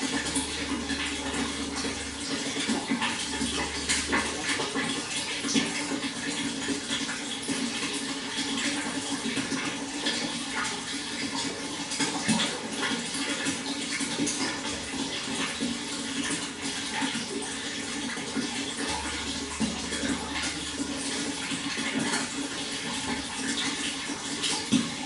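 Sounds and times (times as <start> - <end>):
water rushing: 0.0 - 25.0
water splashing and gurgling: 0.0 - 25.0.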